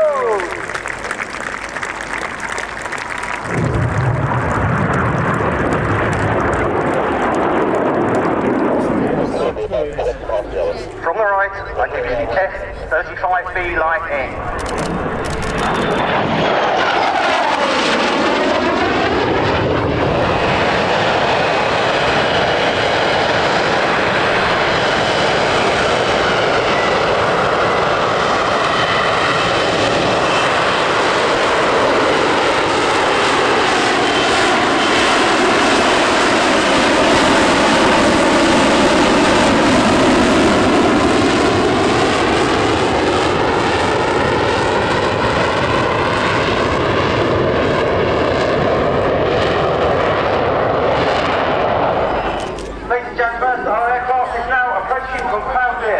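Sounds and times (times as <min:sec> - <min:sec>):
jet engine flying past: 0:00.0 - 0:55.9.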